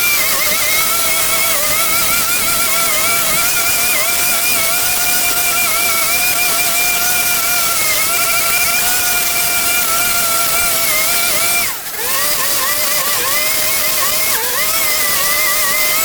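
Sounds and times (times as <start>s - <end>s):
small petrol engine whining: 0.0s - 16.0s.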